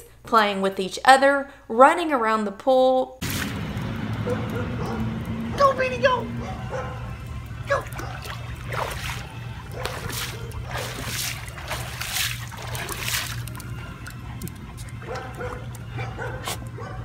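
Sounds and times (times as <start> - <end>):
pool water splashing: 3.2 - 17.0
steady low hum: 3.2 - 17.0.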